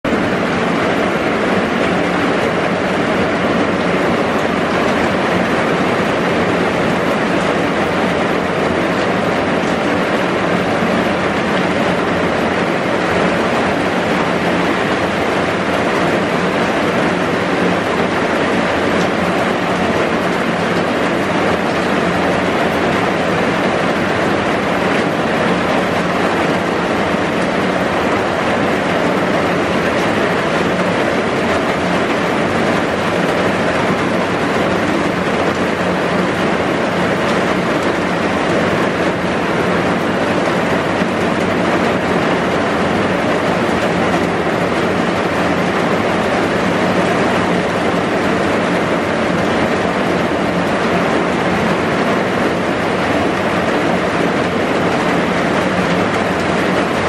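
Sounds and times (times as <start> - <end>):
heavy rain hissing: 0.1 - 57.0.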